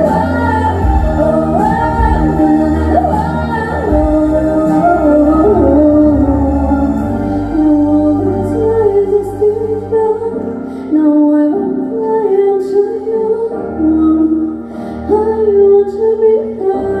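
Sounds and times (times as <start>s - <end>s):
musical accompaniment: 0.0s - 17.0s.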